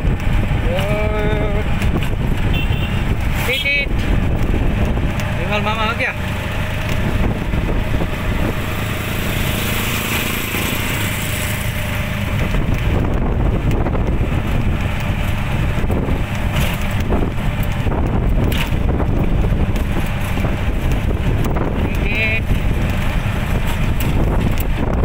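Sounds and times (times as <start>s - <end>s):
vehicle low rumble: 0.0s - 25.0s
wind buffeting microphone: 0.0s - 25.0s.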